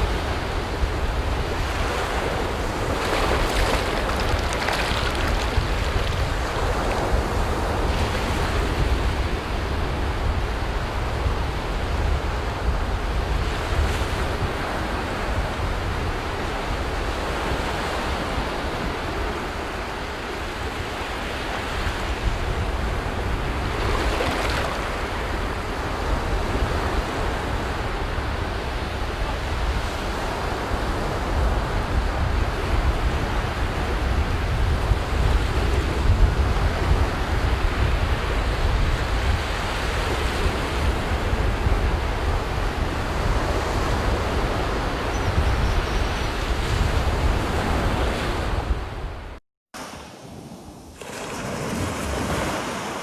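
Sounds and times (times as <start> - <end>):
wind rumble on microphone: 0.0 - 49.4
ocean waves breaking on a beach: 0.0 - 53.0.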